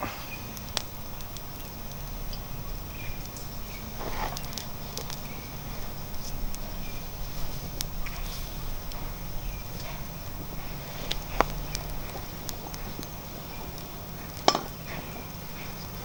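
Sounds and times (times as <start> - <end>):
crackles and clicks of twigs: 0.0 - 16.0.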